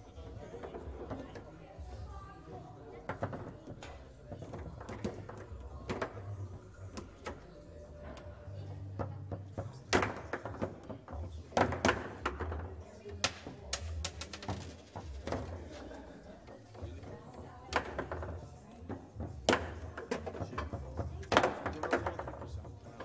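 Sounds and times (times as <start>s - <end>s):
table football knocks and clacks: 2.9s - 23.0s.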